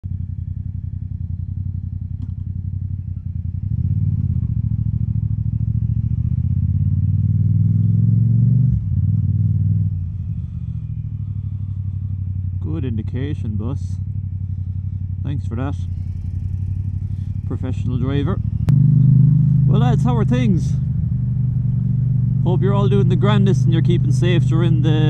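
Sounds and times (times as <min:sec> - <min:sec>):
motorcycle engine revving: 0:00.1 - 0:25.0.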